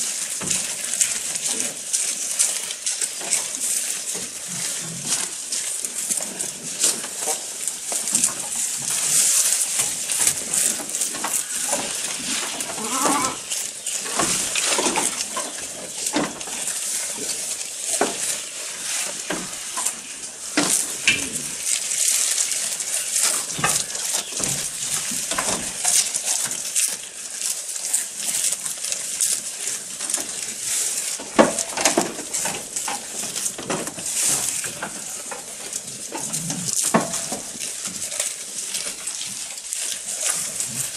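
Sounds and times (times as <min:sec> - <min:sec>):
goats chewing and tearing grass: 0:00.0 - 0:40.9.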